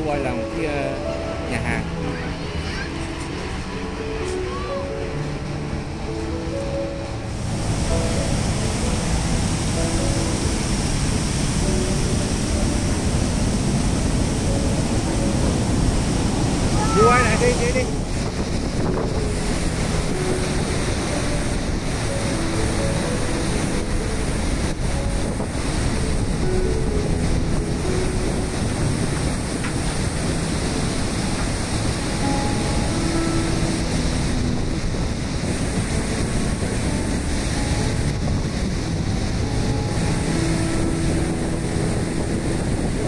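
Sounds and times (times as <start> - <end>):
river water rushing over dam: 0.0 - 43.0
wind noise on microphone: 4.8 - 43.0.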